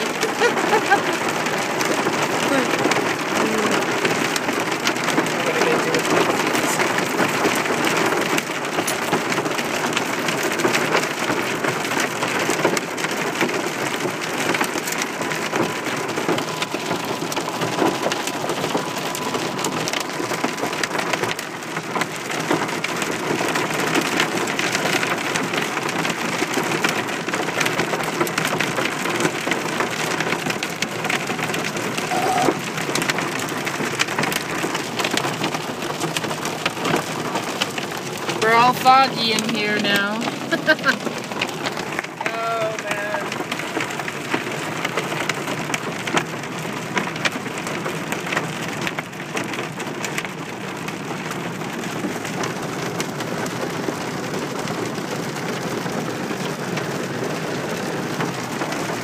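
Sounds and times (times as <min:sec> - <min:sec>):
rain and hail on car roof: 0:00.0 - 0:59.0.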